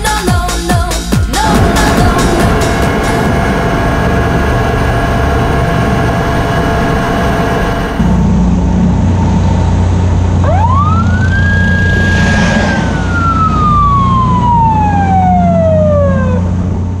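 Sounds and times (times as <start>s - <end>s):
low engine rumble: 1.3s - 17.0s
siren wailing: 1.4s - 9.4s, 10.2s - 16.7s.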